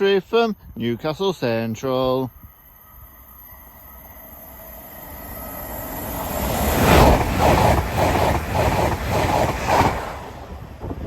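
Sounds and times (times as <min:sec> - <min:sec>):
passenger train passing at speed: 0:00.8 - 0:11.0.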